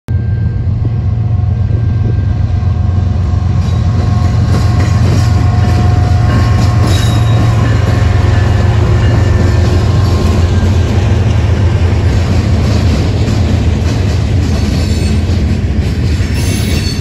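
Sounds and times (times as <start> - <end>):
locomotive engines droning: 0.1 - 17.0
wheel and rail noise: 0.1 - 17.0.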